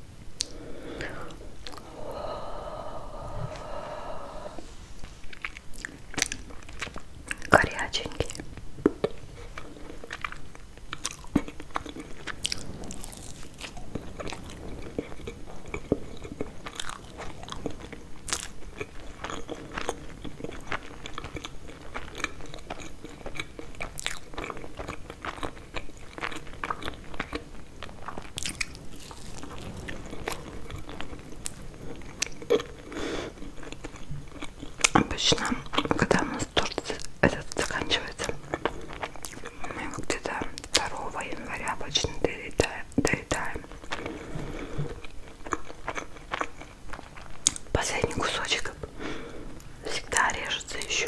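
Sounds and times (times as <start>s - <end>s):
chewing and crunching pastry: 0.3s - 2.1s, 4.9s - 51.0s
wet mouth sounds: 0.4s - 9.2s, 10.0s - 44.0s.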